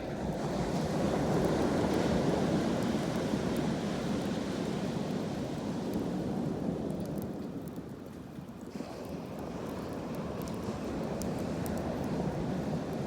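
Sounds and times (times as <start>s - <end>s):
campfire crackles: 0.1s - 13.0s.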